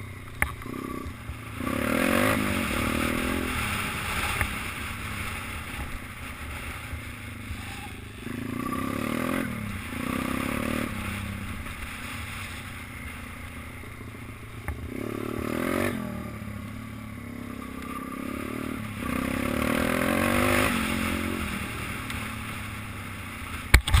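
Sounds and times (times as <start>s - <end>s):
minibike engine revving: 0.0s - 24.0s
steady rushing noise: 0.0s - 24.0s.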